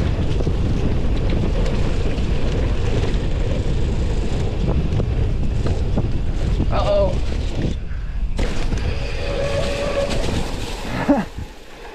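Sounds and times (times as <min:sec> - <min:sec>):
wind on microphone: 0:00.0 - 0:11.7
bike rumbling and rattling: 0:00.0 - 0:11.9.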